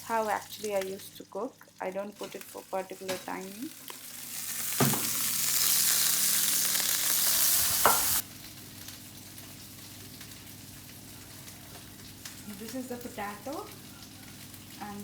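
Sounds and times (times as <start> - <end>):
chicken sizzling in a grill pan: 0.0 - 15.0.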